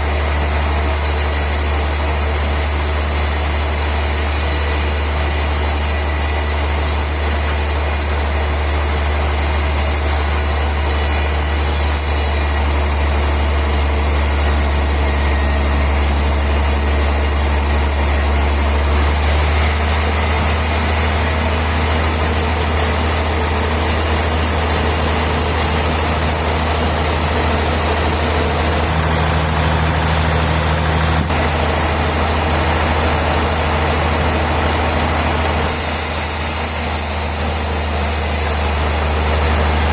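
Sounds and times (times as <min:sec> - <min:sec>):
bandsaw machinery humming: 0:00.0 - 0:39.9.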